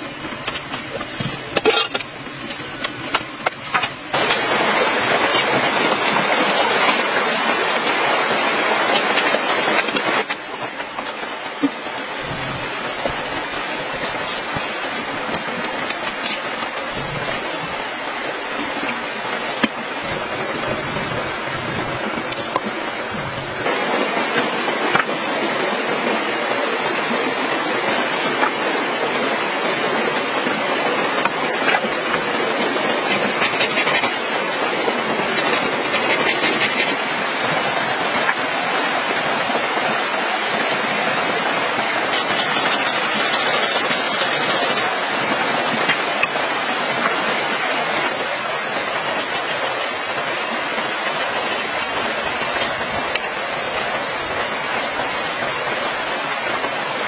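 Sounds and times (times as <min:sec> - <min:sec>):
high rustling or scraping: 0:00.0 - 0:25.8, 0:30.0 - 0:40.9, 0:41.6 - 0:57.0
stream rushing over rocks: 0:00.0 - 0:57.0.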